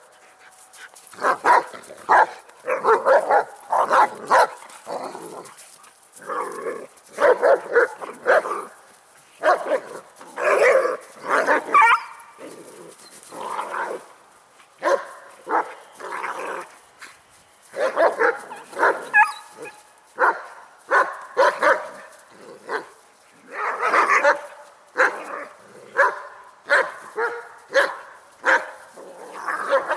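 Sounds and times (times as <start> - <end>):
dogs barking and snarling: 0.0 - 16.8, 17.7 - 29.9.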